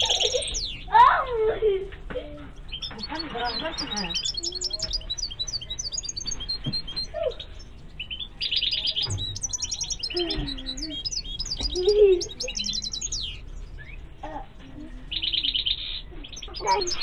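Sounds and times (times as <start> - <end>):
goldfinches twittering: 0.0 - 0.9, 2.6 - 14.2, 15.1 - 17.0.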